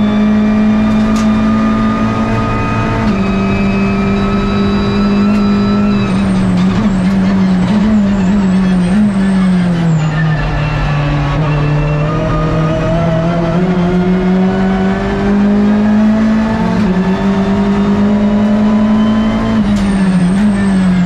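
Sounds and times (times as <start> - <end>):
race car engine: 0.0 - 21.0
road and wind noise: 0.0 - 21.0.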